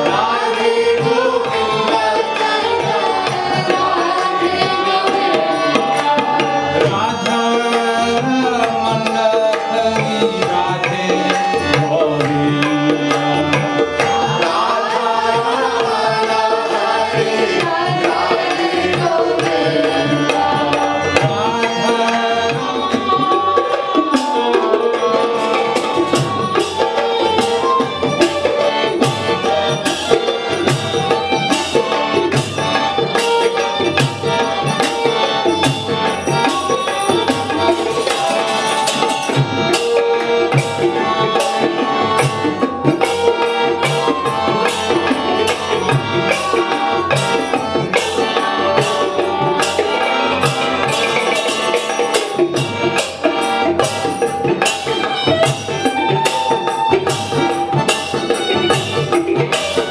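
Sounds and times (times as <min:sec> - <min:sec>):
harmonium: 0:00.0 - 0:59.9
violin: 0:00.0 - 0:59.9.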